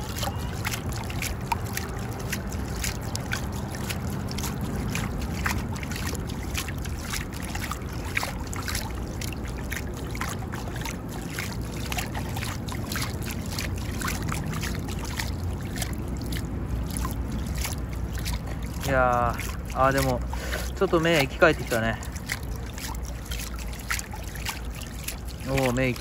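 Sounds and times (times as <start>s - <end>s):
waves splashing against rocks: 0.0s - 26.0s.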